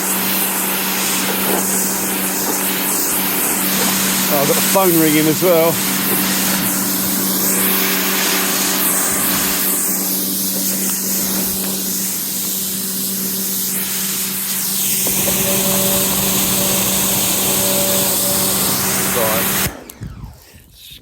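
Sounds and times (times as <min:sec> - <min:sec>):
pressure washer spraying water: 0:00.0 - 0:19.9
pressure washer motor hum: 0:00.0 - 0:20.4.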